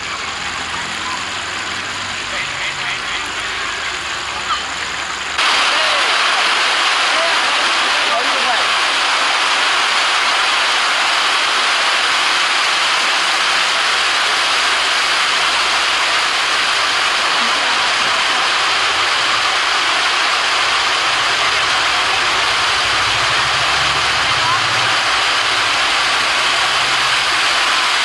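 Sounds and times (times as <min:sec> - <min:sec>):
water pouring down a fountain: 0:00.0 - 0:28.0.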